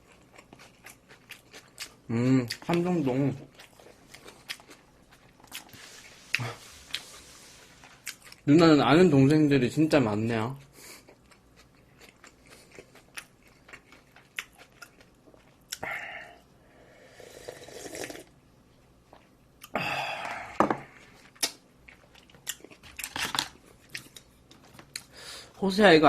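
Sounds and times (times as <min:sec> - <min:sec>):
person chewing and crunching food: 0:00.0 - 0:08.5, 0:10.2 - 0:16.5, 0:19.0 - 0:25.2.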